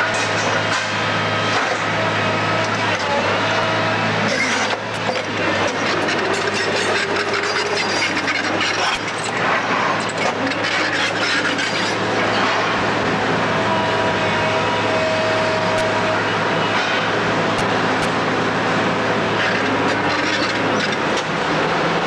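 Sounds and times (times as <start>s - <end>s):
heavy machine engine running: 0.0s - 22.0s.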